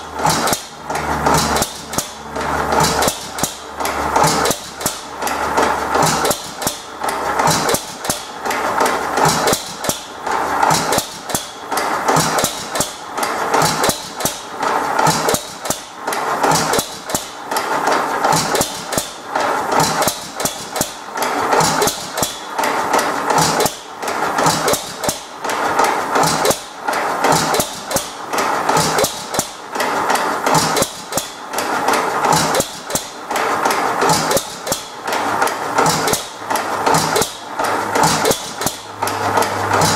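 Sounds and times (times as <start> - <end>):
single-cylinder engine firing knocks: 0.0 - 23.8, 24.4 - 39.9.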